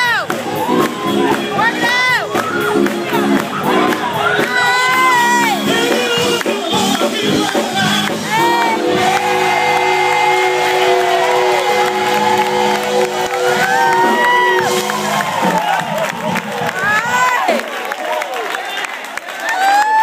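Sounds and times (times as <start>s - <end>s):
congregation shouting and whooping: 0.0s - 6.3s, 7.4s - 20.0s
gospel choir and band: 0.0s - 20.0s.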